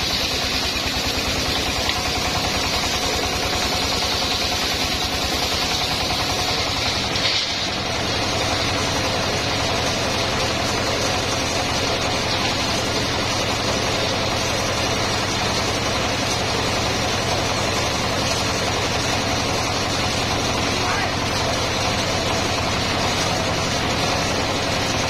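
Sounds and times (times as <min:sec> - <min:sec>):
sawmill engine idling: 0:00.0 - 0:25.0.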